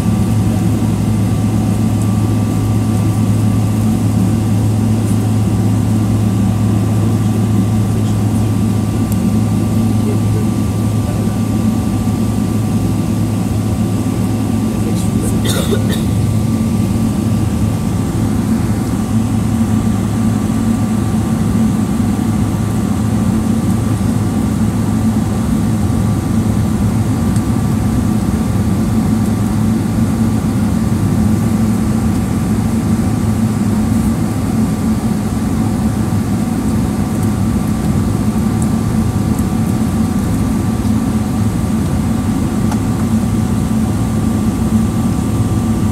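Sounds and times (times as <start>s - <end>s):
airplane cabin engine hum: 0.0s - 45.9s.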